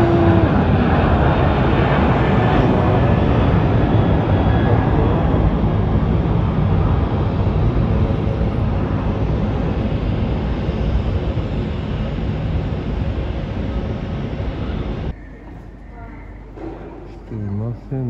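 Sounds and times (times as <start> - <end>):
jet airliner engines rumbling: 0.0 - 16.6.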